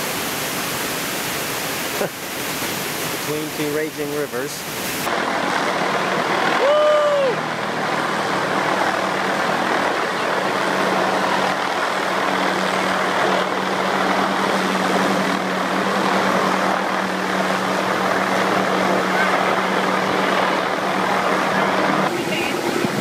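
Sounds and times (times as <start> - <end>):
helicopter rotor and engine drone: 0.0 - 23.0.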